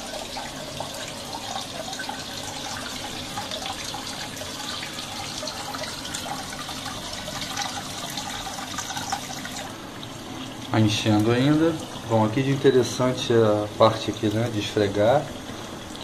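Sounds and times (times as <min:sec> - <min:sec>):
tap water pouring into tub: 0:00.0 - 0:16.0.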